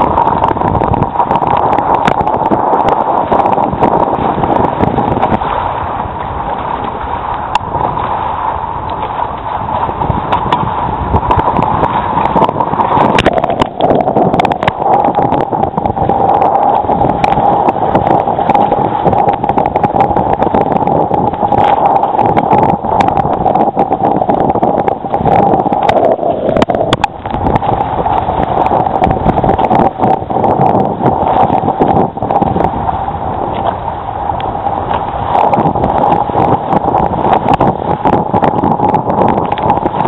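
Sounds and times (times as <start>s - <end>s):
water rushing against boat hull: 0.0s - 40.0s
waves slapping the hull: 0.0s - 40.0s
wind buffeting microphone: 0.0s - 40.0s.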